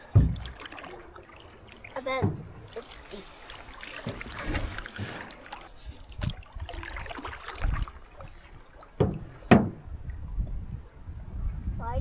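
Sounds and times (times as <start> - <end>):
paddle knocking canoe hull: 0.0 - 10.5
paddle splashes: 0.0 - 11.0.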